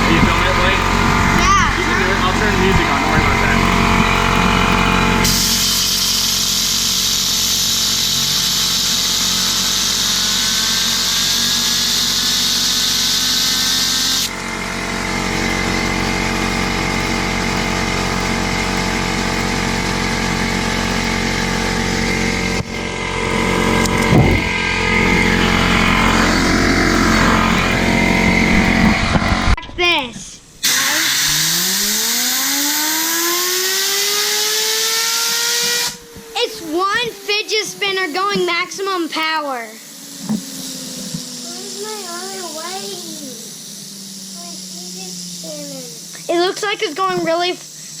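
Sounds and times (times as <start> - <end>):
compressed air hissing: 0.0 - 29.4, 30.4 - 48.0
air compressor motor running: 0.0 - 29.6, 30.4 - 48.0
fidget spinner whine: 0.0 - 29.6, 30.5 - 48.0.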